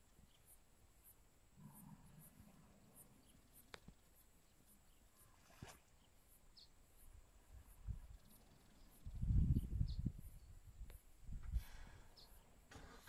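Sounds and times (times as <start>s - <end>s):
faint high insect chirping: 0.0s - 13.0s.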